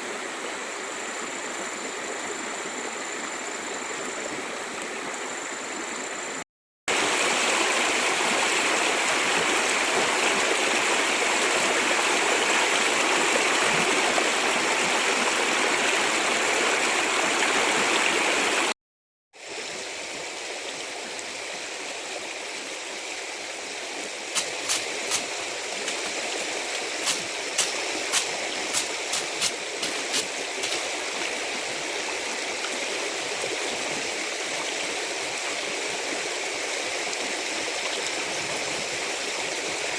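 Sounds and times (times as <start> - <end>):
stream water rushing: 0.0 - 18.8, 19.4 - 39.9.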